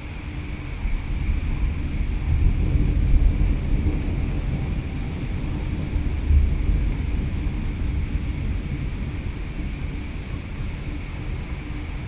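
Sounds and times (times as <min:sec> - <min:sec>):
thunder rumbling: 0:00.0 - 0:12.0
wind at the microphone: 0:00.0 - 0:12.0.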